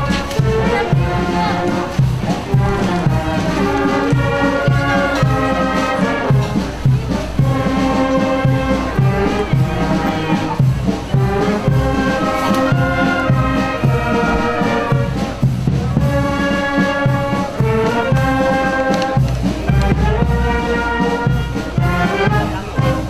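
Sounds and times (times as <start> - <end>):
brass marching band playing: 0.0 - 23.0.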